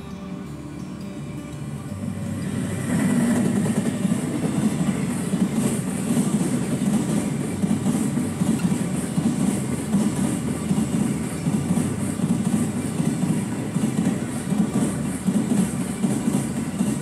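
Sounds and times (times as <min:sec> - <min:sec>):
train running on rails: 0:00.0 - 0:17.0.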